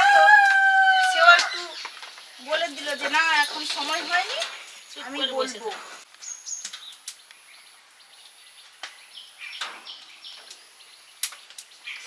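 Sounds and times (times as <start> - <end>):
birds chirping and whistling: 0.8 - 12.0.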